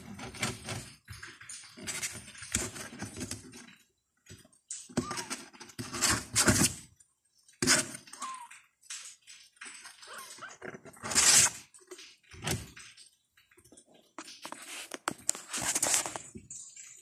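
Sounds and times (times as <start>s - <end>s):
rustling and clattering: 0.0s - 17.0s.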